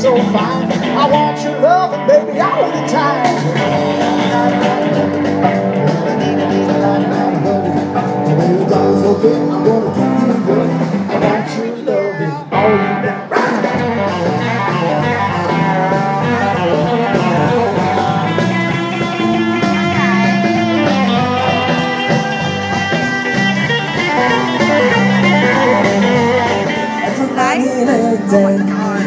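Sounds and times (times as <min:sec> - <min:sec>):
bent guitar notes: 0:00.0 - 0:29.0
steady bass: 0:00.0 - 0:29.0.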